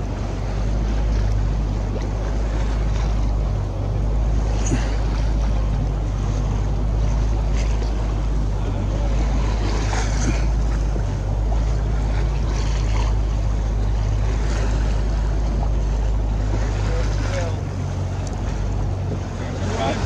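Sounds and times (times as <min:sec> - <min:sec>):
boat engine humming: 0:00.0 - 0:20.0
choppy water washing: 0:00.0 - 0:20.0.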